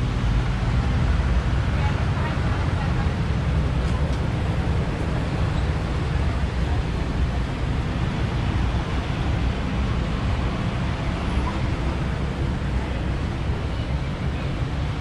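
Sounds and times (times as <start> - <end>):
town traffic: 0.0 - 15.0.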